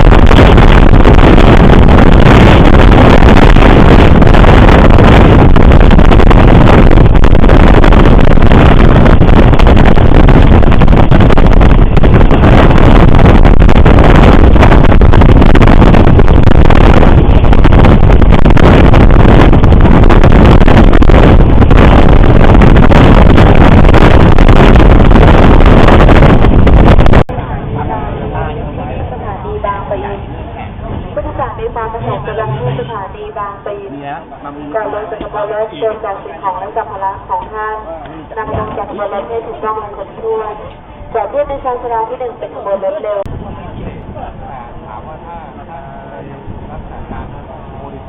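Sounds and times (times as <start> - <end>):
wind buffeting microphone: 0.0 - 33.8, 34.7 - 48.0
train rumbling: 0.0 - 48.0.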